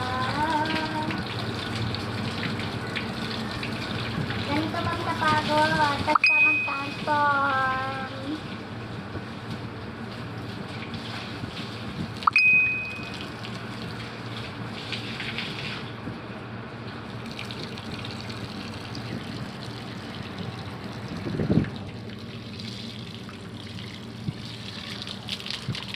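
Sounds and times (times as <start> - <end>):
water running and splashing: 0.0 - 16.0, 16.9 - 25.9.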